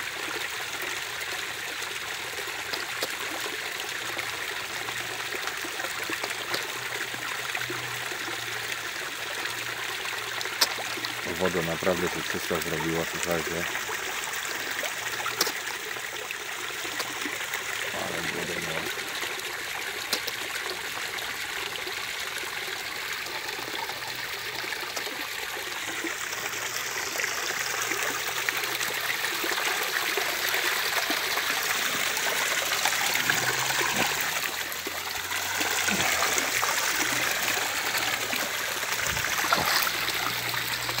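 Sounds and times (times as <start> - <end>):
water trickling into pond: 0.0 - 41.0.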